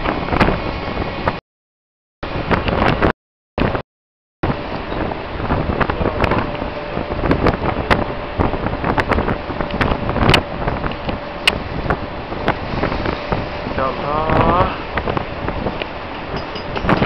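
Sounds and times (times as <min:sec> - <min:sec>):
wind buffeting microphone: 0:00.0 - 0:01.4, 0:02.2 - 0:03.8, 0:04.4 - 0:17.0.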